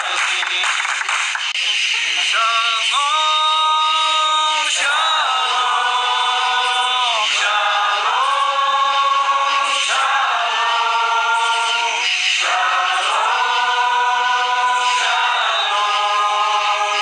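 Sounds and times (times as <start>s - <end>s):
choir singing held chords: 1.6s - 17.0s.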